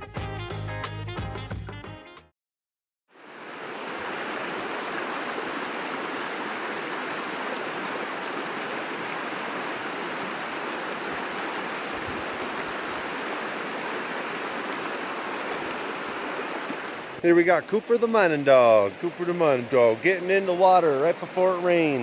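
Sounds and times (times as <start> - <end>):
creek water rushing: 3.2 - 22.0.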